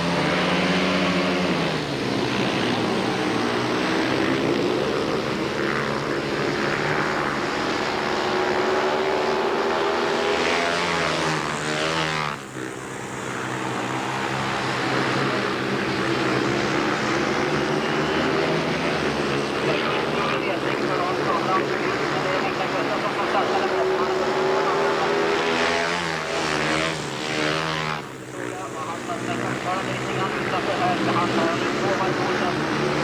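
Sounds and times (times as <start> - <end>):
motorcycle engines racing: 0.0 - 33.0.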